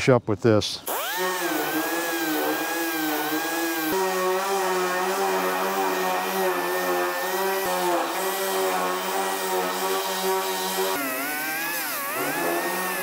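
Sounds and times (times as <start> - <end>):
sander on sheet metal: 0.8 - 13.0.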